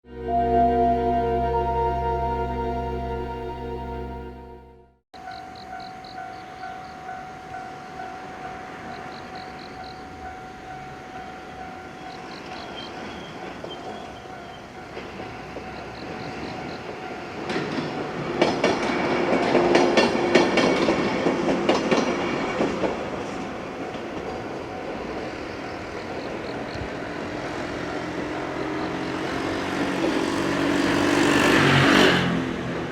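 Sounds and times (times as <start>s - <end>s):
electric train passing: 0.1s - 32.9s.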